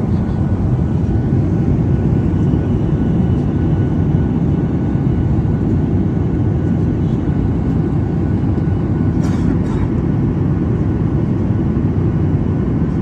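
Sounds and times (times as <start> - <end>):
airliner cabin engine rumble: 0.0 - 13.0
faint steady whines: 0.0 - 13.0.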